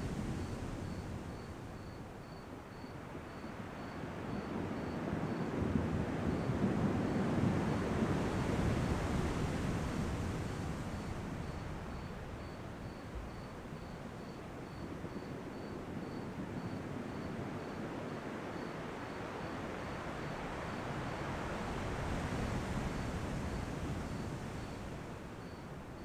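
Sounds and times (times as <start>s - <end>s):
insect chirping: 0.0s - 5.4s, 8.6s - 26.0s.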